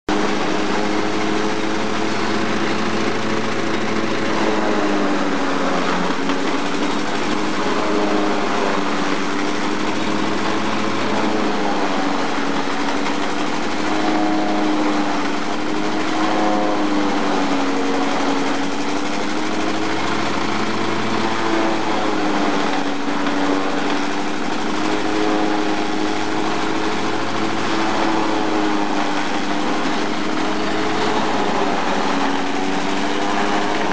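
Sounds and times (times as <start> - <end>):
diesel engine running: 0.1 - 33.9
forage chopper chopping stalks: 0.1 - 33.9
steady rushing noise: 0.1 - 33.9.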